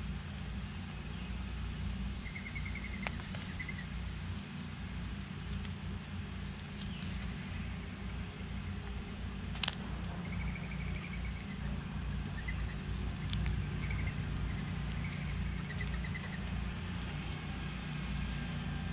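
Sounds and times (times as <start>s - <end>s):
small birds trilling: 0.0s - 4.6s, 5.4s - 18.9s
steady low rumble: 0.0s - 18.9s.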